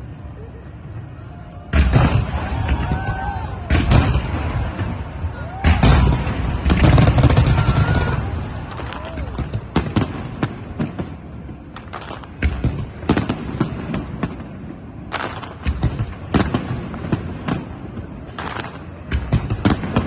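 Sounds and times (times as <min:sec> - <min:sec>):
distant explosions rumbling: 0:01.6 - 0:20.0
fireworks cracks and booms: 0:01.7 - 0:20.0.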